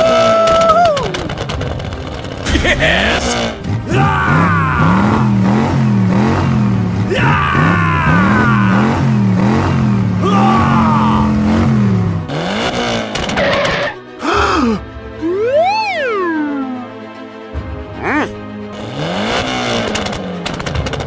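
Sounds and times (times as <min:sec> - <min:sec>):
engine revving sound effect: 0:00.0 - 0:14.1, 0:15.2 - 0:17.0, 0:18.2 - 0:21.0.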